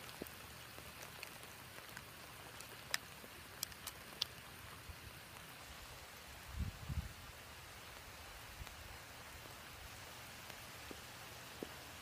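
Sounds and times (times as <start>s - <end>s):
sharp drips ticking: 0.0s - 6.4s, 7.2s - 12.0s.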